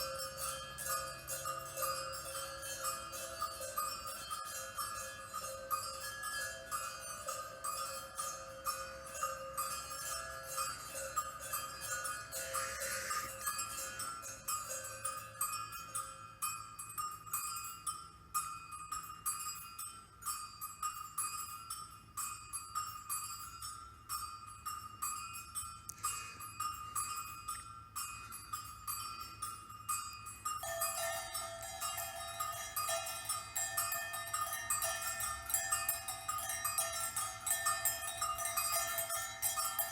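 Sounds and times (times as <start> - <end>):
small bells tinkling: 0.0 - 39.9
sustained ringing tones: 0.0 - 39.9.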